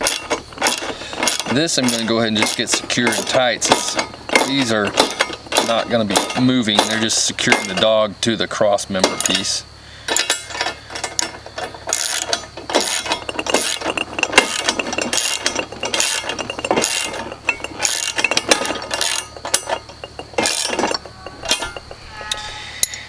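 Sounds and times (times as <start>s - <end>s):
ratchet wrench clicking: 0.0s - 7.9s, 10.1s - 23.0s.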